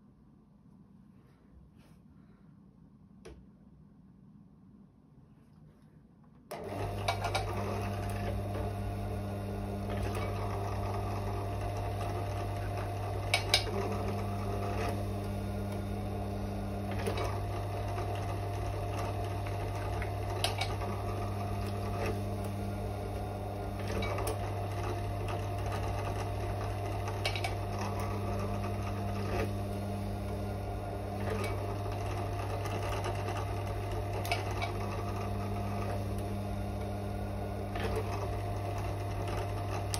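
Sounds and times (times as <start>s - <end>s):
drill press motor humming: 6.5s - 39.9s.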